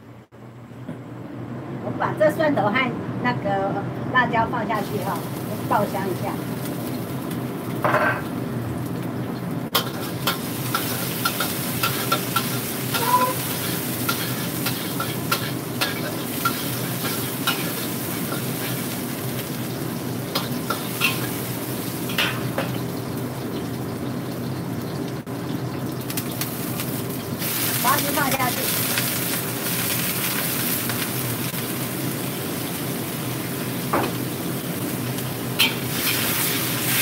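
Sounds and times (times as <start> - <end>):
garlic sizzling in hot oil: 4.7 - 37.0.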